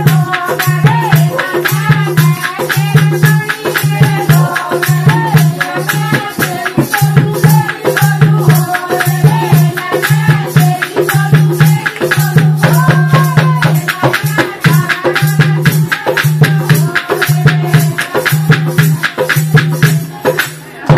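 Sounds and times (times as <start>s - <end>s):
hand drum beating: 0.0s - 20.9s
rattling percussion: 0.0s - 20.9s
women singing: 0.0s - 20.9s.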